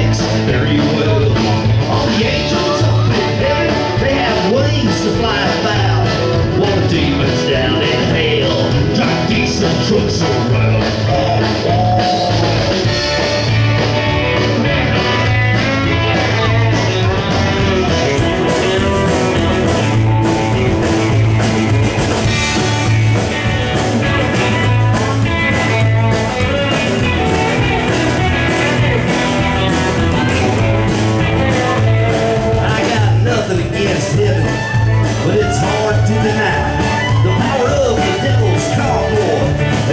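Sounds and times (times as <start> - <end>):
country band playing instrumental: 0.0 - 39.9.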